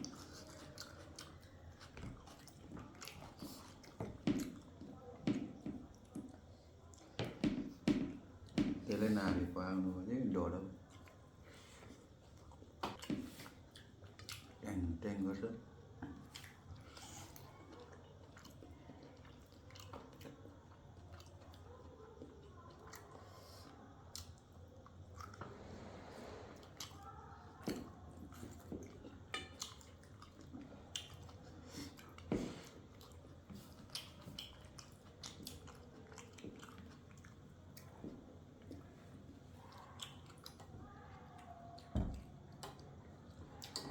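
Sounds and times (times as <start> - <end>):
faint close-up chewing: 0.0 - 43.9.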